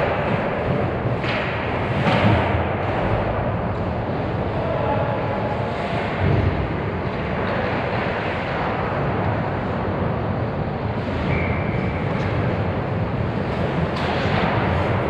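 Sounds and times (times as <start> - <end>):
ice rink crowd noise: 0.0 - 15.0.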